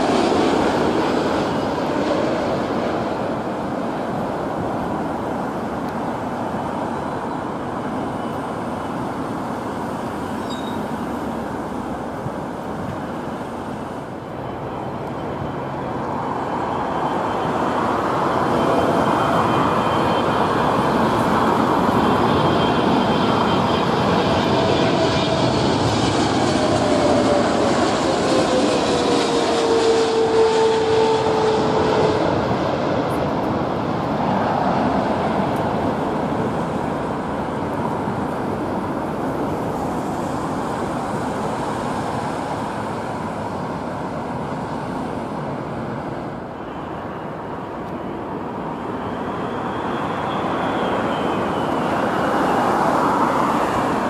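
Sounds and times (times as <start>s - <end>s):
jet engine whine falling: 0.0s - 54.0s
jet engines roaring: 0.0s - 54.0s.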